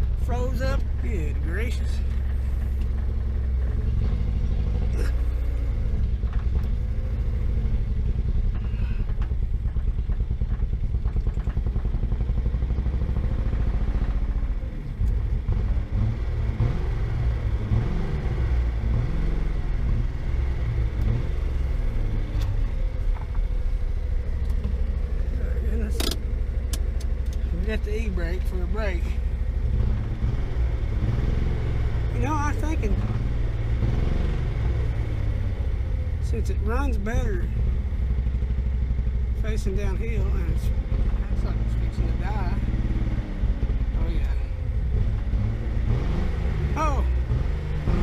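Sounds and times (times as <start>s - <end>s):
car engine running rough: 0.0s - 48.0s.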